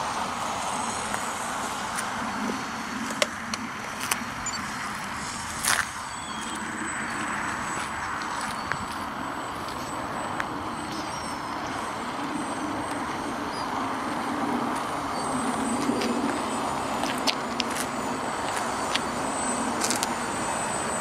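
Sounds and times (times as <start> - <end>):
model plane propeller droning: 0.0 - 21.0.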